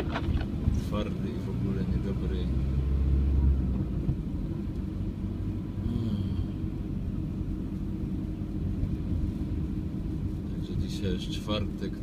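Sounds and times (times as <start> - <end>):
van engine and road noise hum: 0.0 - 12.0.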